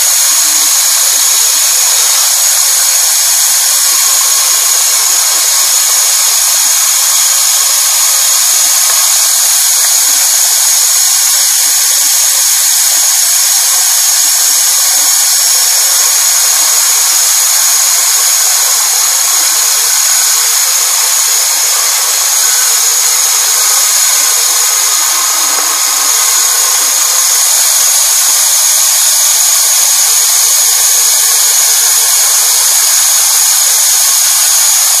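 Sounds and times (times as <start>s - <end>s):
band saw motor whine: 0.0s - 35.0s.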